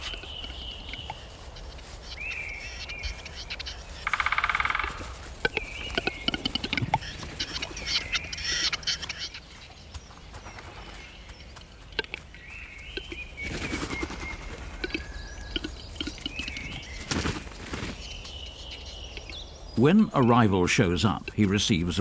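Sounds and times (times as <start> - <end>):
small birds singing: 0.0 - 22.0.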